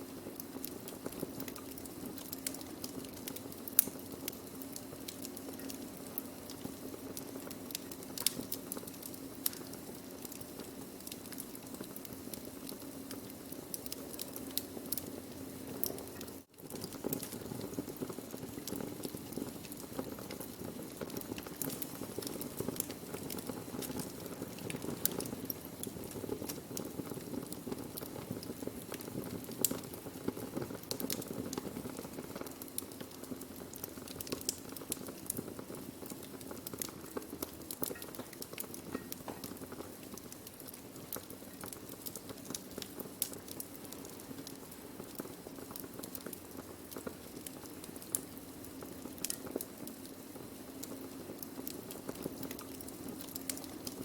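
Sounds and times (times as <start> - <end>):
fire pops and crackles: 0.0 - 54.0.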